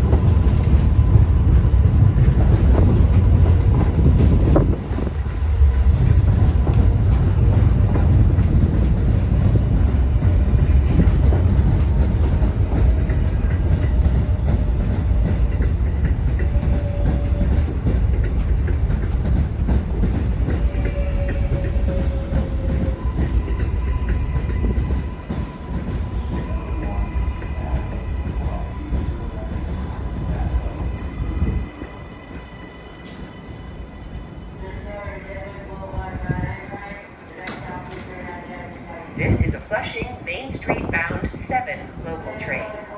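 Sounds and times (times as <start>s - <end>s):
subway train rumbling: 0.0s - 42.9s.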